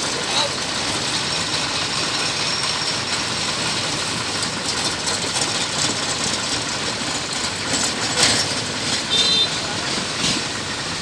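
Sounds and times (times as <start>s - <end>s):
boat engine running: 0.0s - 11.0s
propeller churning water: 0.0s - 11.0s.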